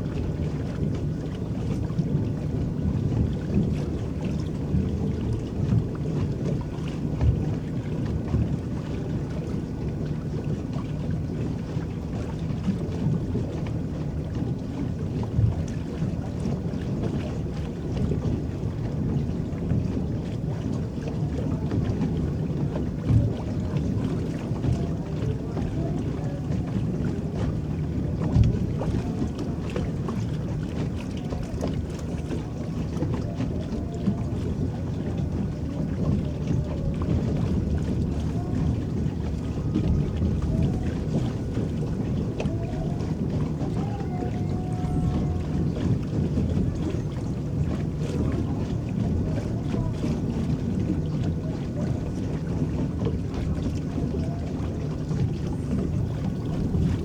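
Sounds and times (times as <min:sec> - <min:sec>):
water churning and lapping: 0:00.0 - 0:57.0
wind rumble on microphone: 0:00.0 - 0:57.0.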